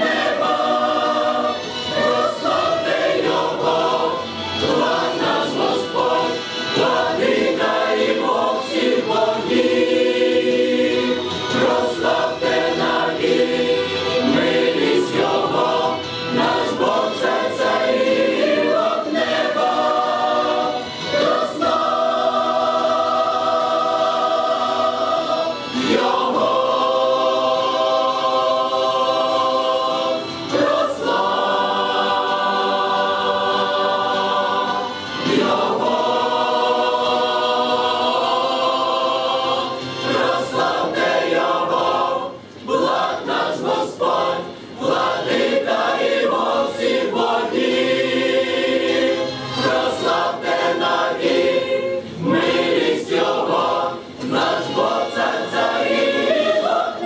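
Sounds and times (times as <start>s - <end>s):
mixed choir singing a hymn: 0.0s - 57.0s.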